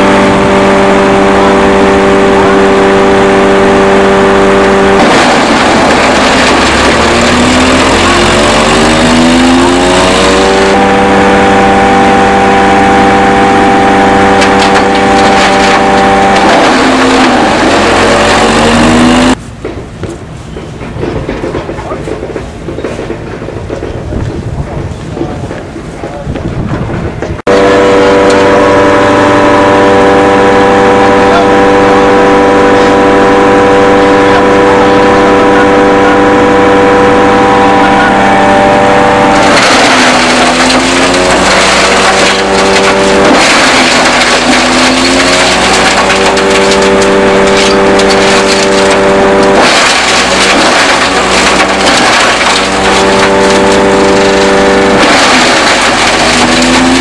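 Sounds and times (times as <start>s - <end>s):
husks crackling in shredder: 0.0s - 19.4s, 27.5s - 57.0s
shredder engine running: 0.0s - 19.4s, 27.5s - 57.0s.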